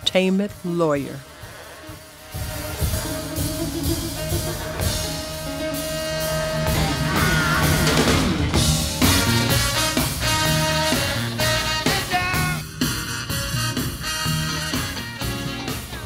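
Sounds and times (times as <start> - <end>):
funk band playing live: 1.9 - 16.0.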